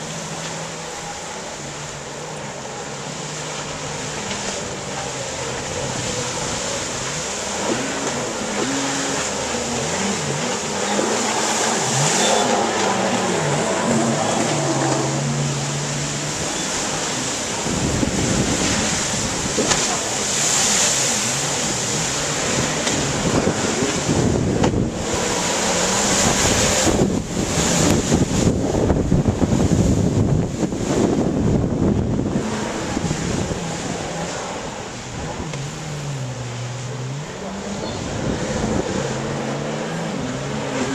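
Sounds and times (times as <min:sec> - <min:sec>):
jet ski engines revving: 0:00.0 - 0:40.9
wind buffeting microphone: 0:04.1 - 0:36.2, 0:37.6 - 0:40.9.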